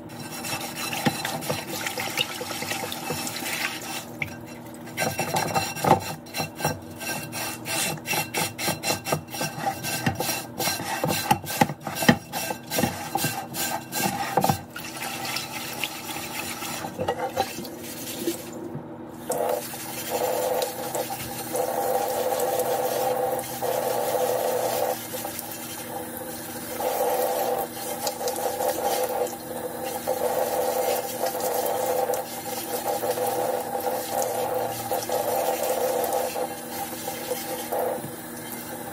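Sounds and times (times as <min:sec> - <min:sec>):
scrubber rubbing clay lid: 0:00.0 - 0:18.4, 0:19.3 - 0:38.8
tap water running into sink: 0:00.3 - 0:18.6, 0:19.2 - 0:38.9.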